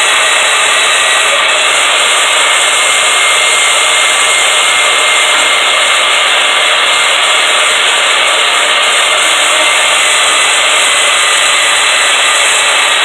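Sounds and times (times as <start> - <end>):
bandsaw cutting metal: 0.0 - 13.0.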